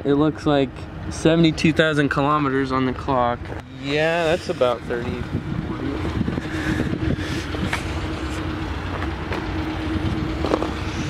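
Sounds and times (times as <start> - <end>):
vehicle engine running: 0.1 - 11.0.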